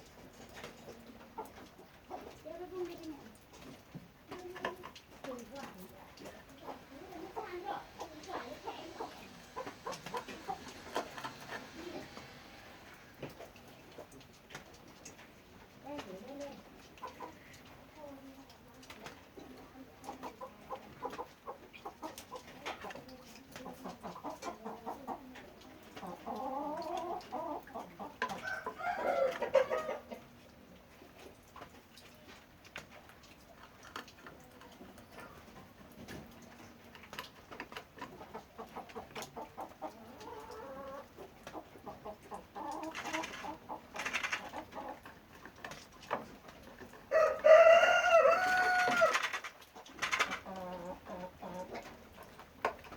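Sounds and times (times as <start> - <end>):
chickens clucking: 0.0 - 52.9.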